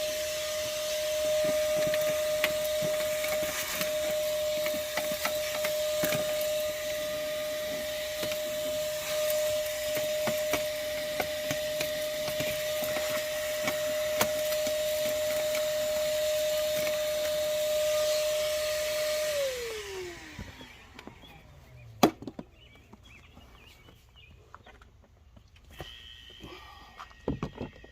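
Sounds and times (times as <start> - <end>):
shop vacuum whining: 0.0 - 23.2.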